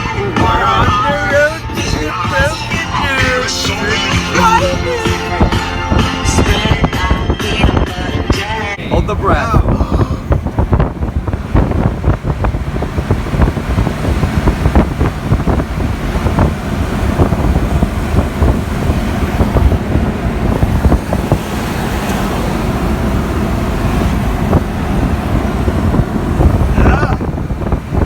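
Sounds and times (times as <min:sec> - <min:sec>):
moving vehicle noise: 0:00.0 - 0:28.0
wind buffeting microphone: 0:00.0 - 0:28.0.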